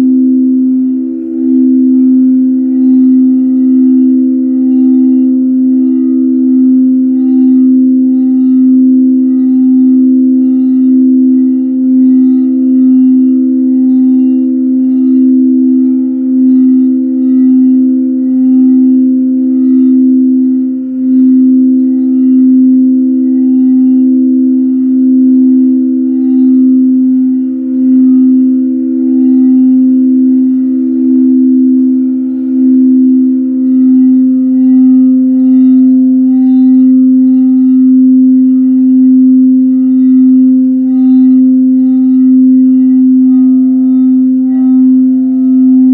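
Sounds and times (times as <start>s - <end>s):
singing bowl hum: 0.0s - 45.9s.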